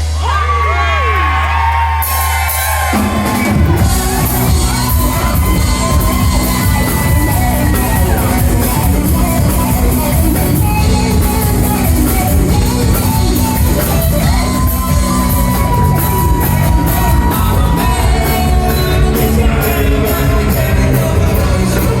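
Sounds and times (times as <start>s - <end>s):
loud rock band music: 0.0s - 22.0s.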